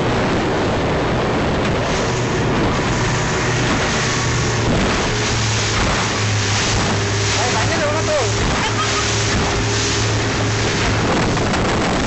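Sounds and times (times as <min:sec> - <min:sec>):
motorboat engine hum: 0:00.0 - 0:12.0
rushing wind and water: 0:00.0 - 0:12.0.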